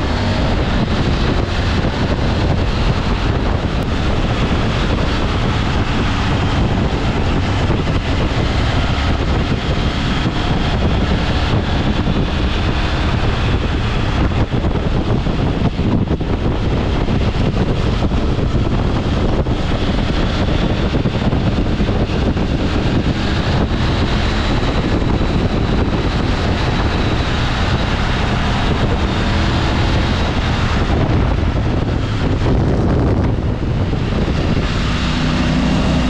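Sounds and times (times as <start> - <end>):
vehicle rumble: 0.0 - 36.0
wind buffeting microphone: 0.0 - 36.0.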